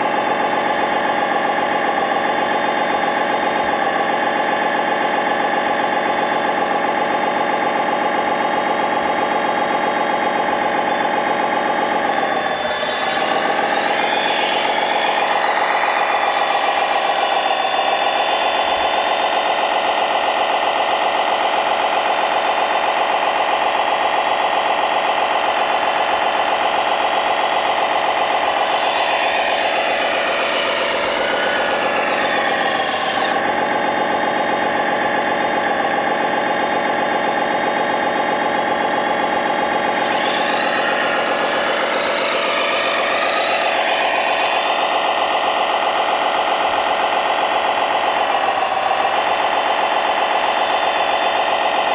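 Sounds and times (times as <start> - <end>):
hydraulic pump whine: 0.0 - 51.9
simulated diesel engine: 0.0 - 51.9.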